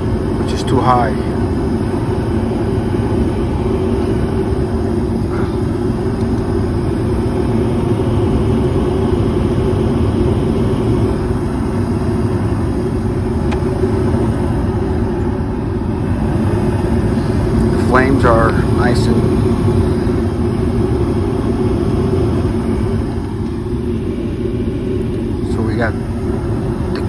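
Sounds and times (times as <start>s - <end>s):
furnace fans turning: 0.0s - 27.0s
gas furnace burners rumbling: 0.0s - 27.0s.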